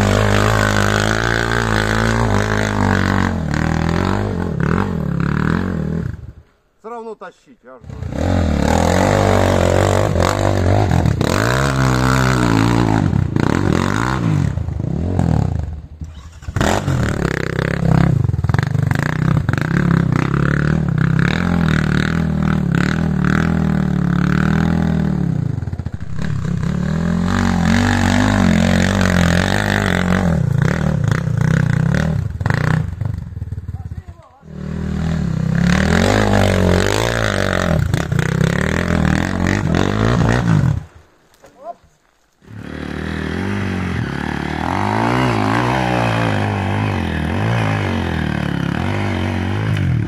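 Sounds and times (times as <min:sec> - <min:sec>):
dirt bike engine revving: 0:00.0 - 0:06.4, 0:07.8 - 0:40.9, 0:42.4 - 0:50.0.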